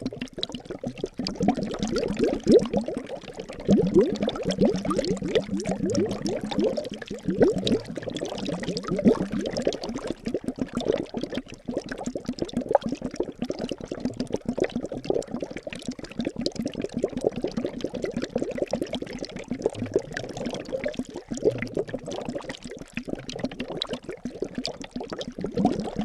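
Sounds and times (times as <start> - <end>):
liquid bubbling and gurgling: 0.0 - 26.0.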